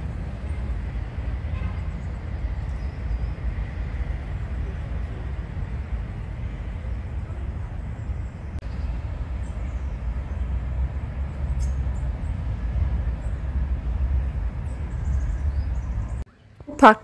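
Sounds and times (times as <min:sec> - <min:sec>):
wind buffeting microphone: 0:00.0 - 0:16.3
outdoor noise: 0:00.0 - 0:17.0.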